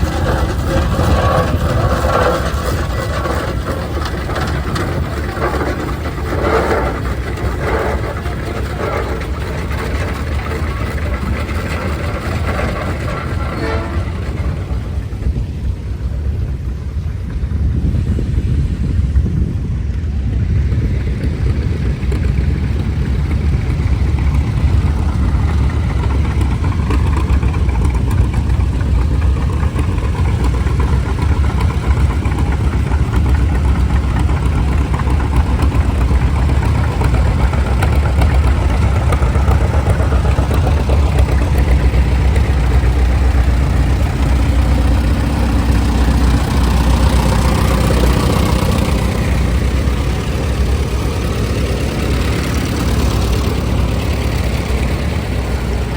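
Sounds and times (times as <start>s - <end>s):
engine low rumble: 0.0s - 55.9s.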